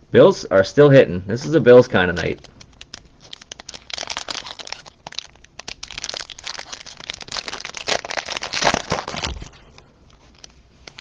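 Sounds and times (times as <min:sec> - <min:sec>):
plastic wrapper crinkling: 0:02.1 - 0:11.0.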